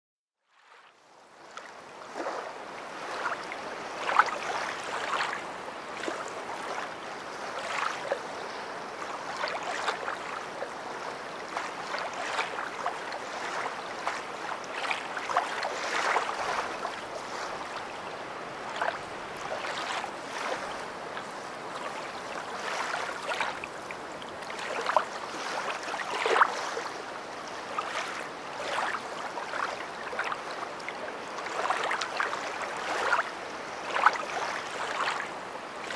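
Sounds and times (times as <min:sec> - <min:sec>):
water splashes and gurgles: 0:00.4 - 0:35.9
river water rushing: 0:00.7 - 0:35.9.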